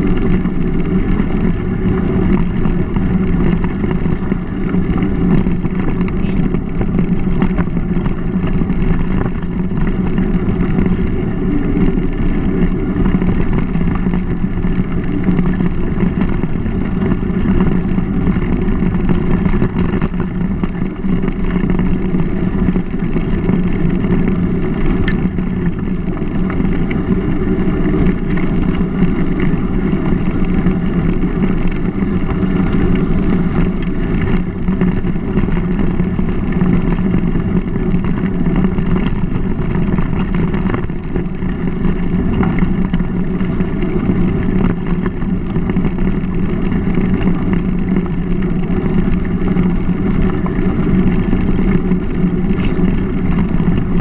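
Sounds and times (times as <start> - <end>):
bike tyres rolling on gravel: 0.0 - 54.0
wind on microphone: 0.0 - 54.0.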